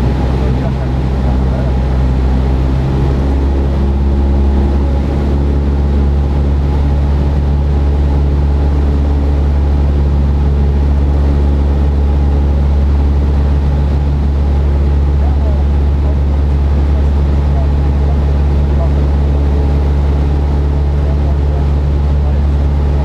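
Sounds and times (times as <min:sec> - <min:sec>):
airplane engine droning in cabin: 0:00.0 - 0:23.0.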